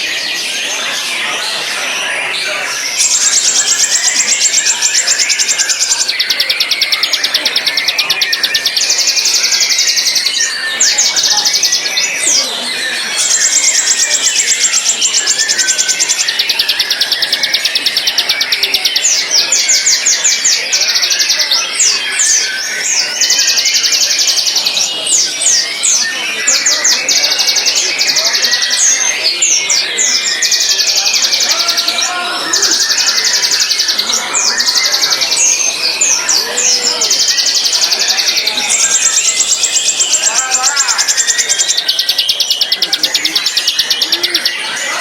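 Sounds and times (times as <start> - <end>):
bird singing fast trills: 0.0 - 45.0.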